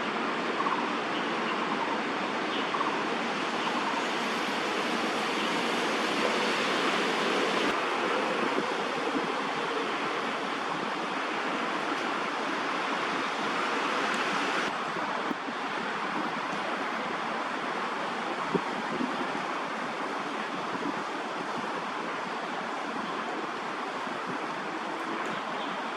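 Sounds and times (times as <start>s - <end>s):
rushing outdoor background noise: 0.0s - 25.9s.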